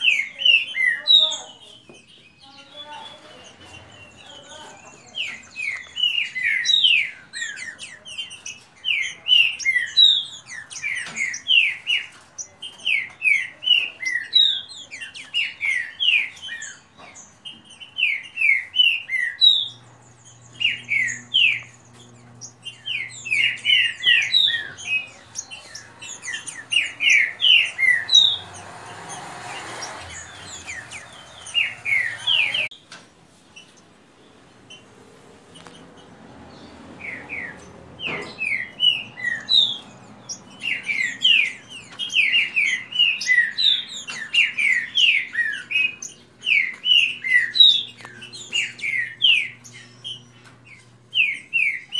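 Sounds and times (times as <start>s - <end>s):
birds singing whistled notes: 0.0s - 32.8s, 35.5s - 51.9s.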